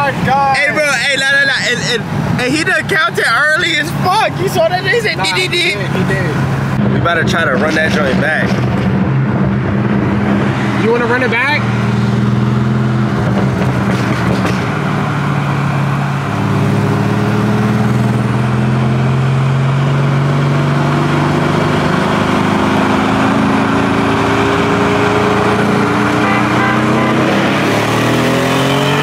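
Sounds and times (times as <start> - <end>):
car engine accelerating: 0.0 - 29.0
road and wind noise: 0.0 - 29.0.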